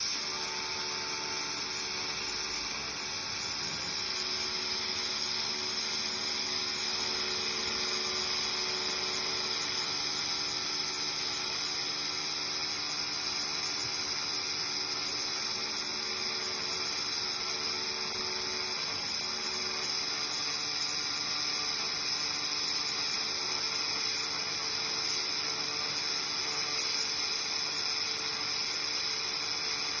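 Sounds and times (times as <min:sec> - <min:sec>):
laser welding machine hissing: 0:00.0 - 0:30.0.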